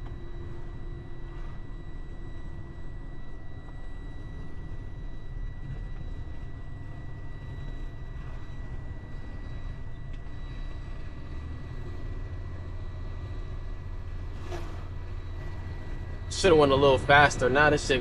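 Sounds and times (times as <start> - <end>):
faint high whine: 0.0 - 18.0
truck engine rumbling: 0.0 - 18.0.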